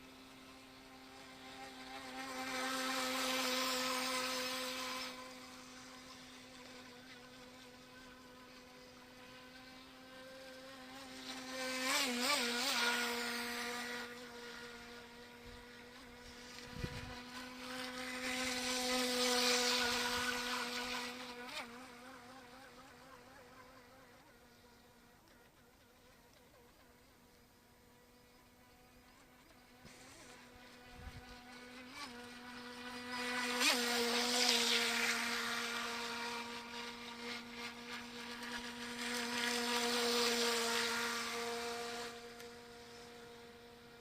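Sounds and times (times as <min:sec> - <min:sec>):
electric boat motor whine: 0:00.0 - 0:44.0.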